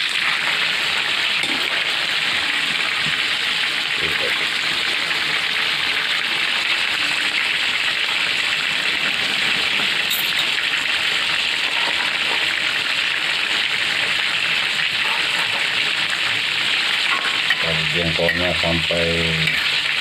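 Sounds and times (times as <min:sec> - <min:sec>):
sauce bubbling and sizzling in wok: 0:00.0 - 0:20.0.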